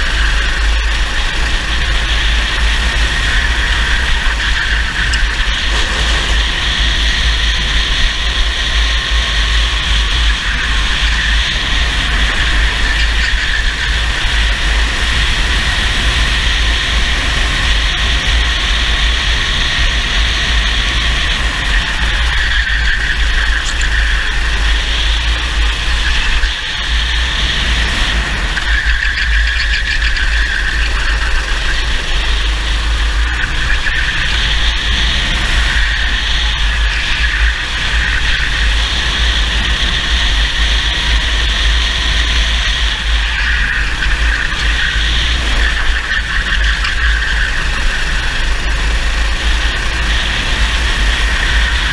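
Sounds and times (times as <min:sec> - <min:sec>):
kart engine running hard: 0:00.0 - 0:51.9
wind buffeting microphone: 0:00.0 - 0:51.9.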